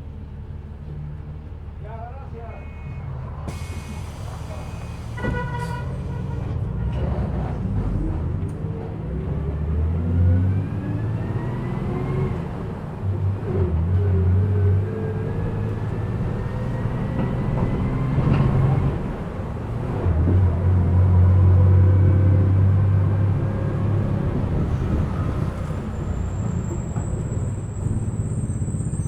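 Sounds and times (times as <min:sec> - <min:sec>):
bus engine rumbling: 0:00.0 - 0:29.0.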